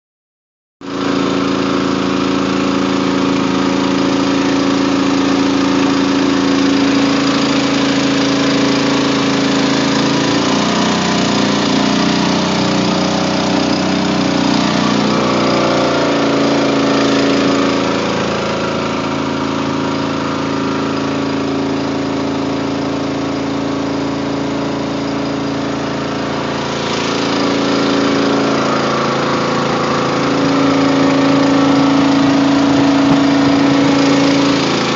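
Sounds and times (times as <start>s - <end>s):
boat engine running: 0.8s - 34.9s.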